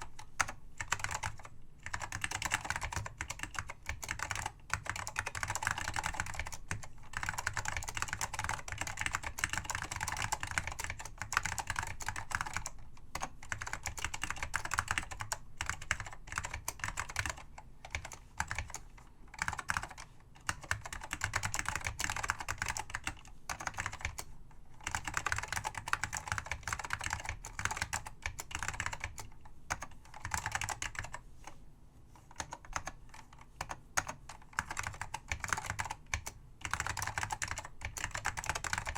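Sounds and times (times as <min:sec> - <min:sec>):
mechanical keyboard typing: 0:00.1 - 0:31.2, 0:32.3 - 0:38.9.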